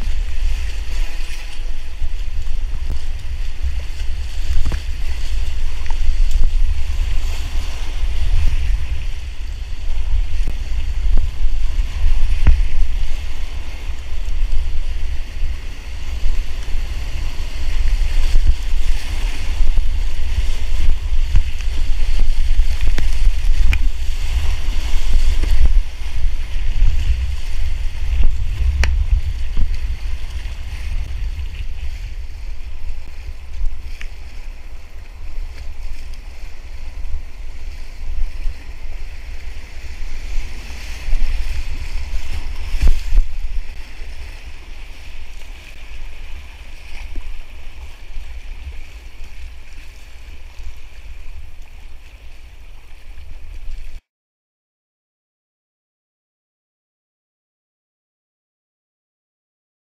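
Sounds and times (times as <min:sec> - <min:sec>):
paddle splashes: 0:00.0 - 0:54.0
wind rumble on microphone: 0:00.0 - 0:54.1.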